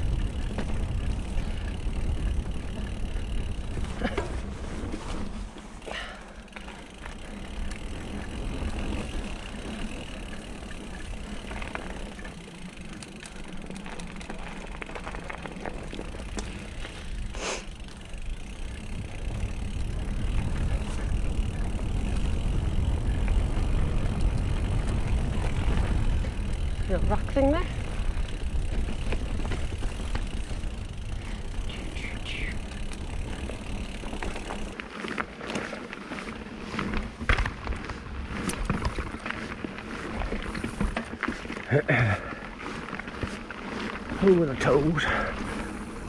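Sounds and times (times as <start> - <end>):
bike tyres rolling on gravel: 0.0 - 46.0.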